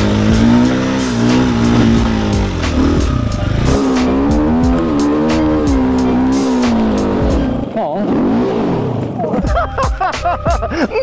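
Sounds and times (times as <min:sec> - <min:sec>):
dirt bike engine revving: 0:00.0 - 0:09.6.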